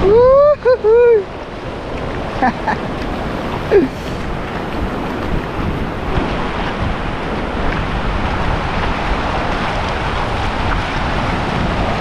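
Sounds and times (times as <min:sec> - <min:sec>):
ocean surf washing in: 0:00.0 - 0:12.0
wind rumbling on microphone: 0:00.0 - 0:12.0.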